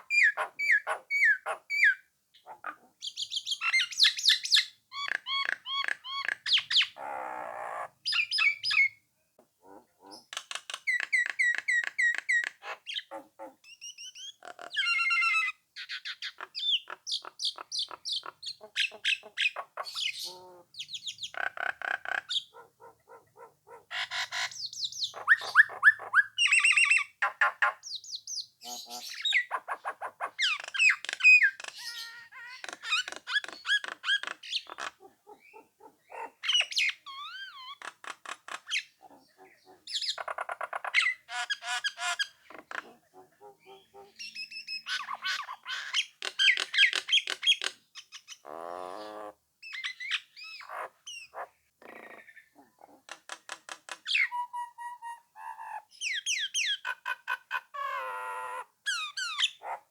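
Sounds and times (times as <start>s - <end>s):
myna bird singing: 0.0s - 9.0s, 9.6s - 59.9s.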